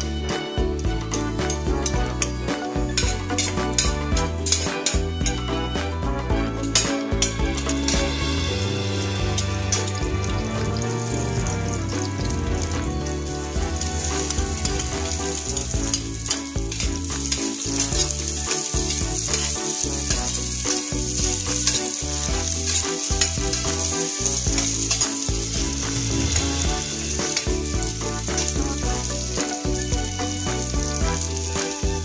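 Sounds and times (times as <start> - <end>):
background music: 0.0 - 32.0
garlic and onion sizzling in oil: 0.0 - 32.0.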